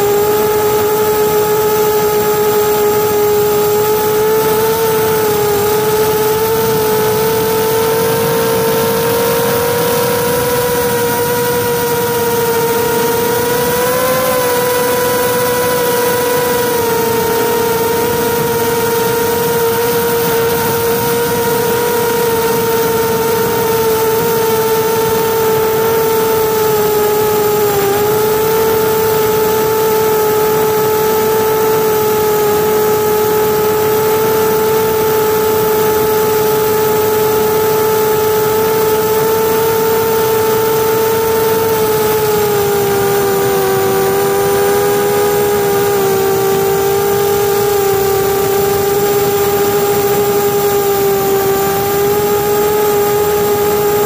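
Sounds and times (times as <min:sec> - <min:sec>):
drone motors and propellers humming: 0:00.0 - 0:54.0.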